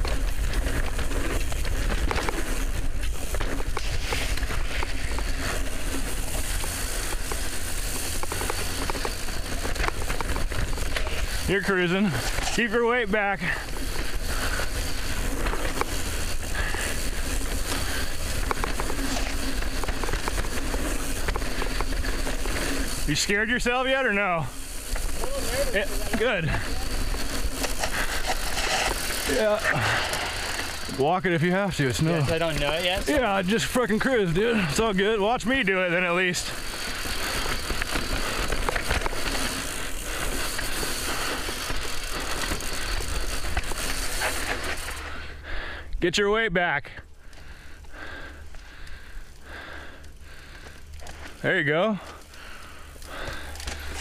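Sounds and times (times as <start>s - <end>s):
tyre hiss on dirt: 0.0s - 46.0s, 47.0s - 54.0s
bike and stones rattling clicks: 0.0s - 46.2s, 46.9s - 54.0s.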